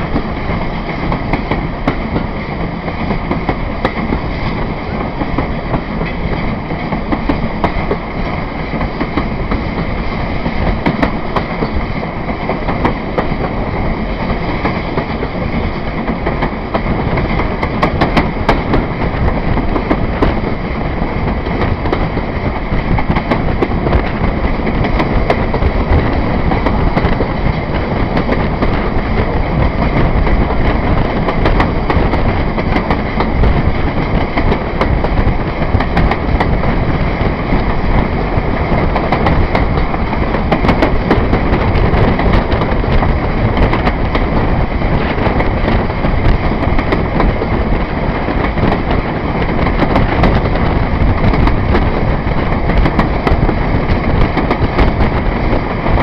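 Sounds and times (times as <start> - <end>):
train rumble: 0.0 - 56.0
wheels clicking over rail joints: 0.0 - 56.0.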